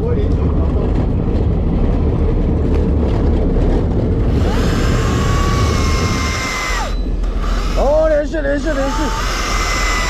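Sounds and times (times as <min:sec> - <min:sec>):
boat engine running: 0:00.0 - 0:10.0
high whine: 0:01.3 - 0:10.0.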